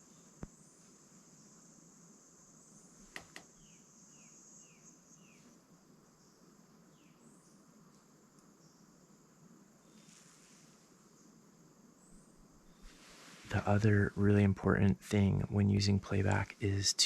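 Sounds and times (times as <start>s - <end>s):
high insect hiss: 0.0s - 17.0s.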